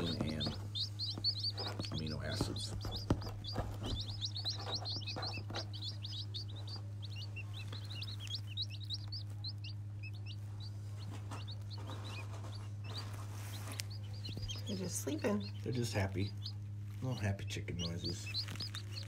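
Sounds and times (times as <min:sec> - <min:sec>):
chicks peeping: 0:00.0 - 0:19.0
steady low hum: 0:00.0 - 0:19.0.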